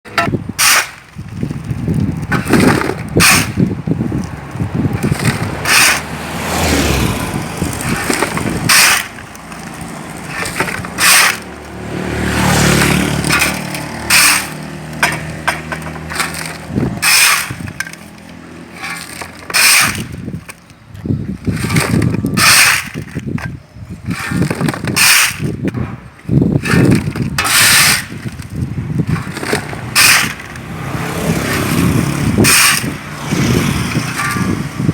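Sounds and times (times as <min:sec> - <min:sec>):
shovel scraping rubble: 0:00.1 - 0:34.9.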